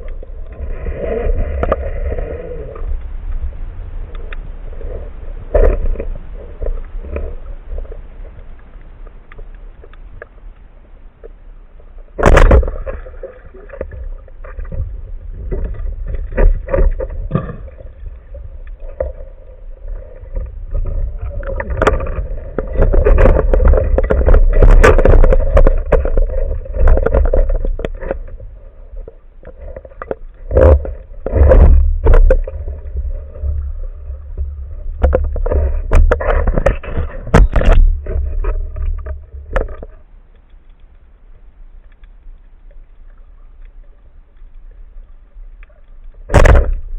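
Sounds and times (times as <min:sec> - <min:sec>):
knocks and scrapes: 0:00.0 - 0:03.1, 0:04.1 - 0:08.6, 0:11.2 - 0:40.9, 0:43.7 - 0:46.9
underwater rumble of moving water: 0:00.0 - 0:46.9.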